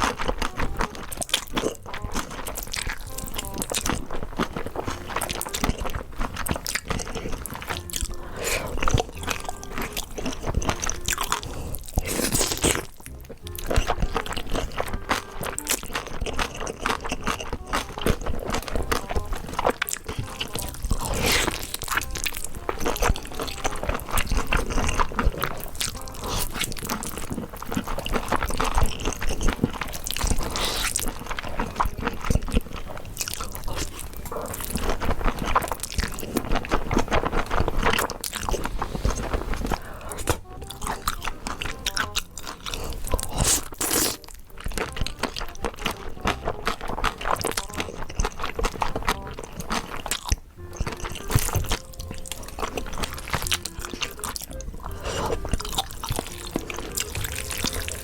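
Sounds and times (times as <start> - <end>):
background music: 0.0 - 58.0
crunching and chewing food: 0.0 - 58.0.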